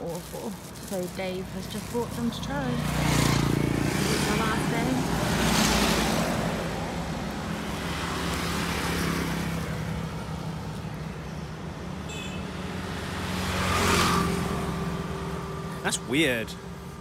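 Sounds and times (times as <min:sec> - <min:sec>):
vehicle engines passing: 0:00.0 - 0:17.0.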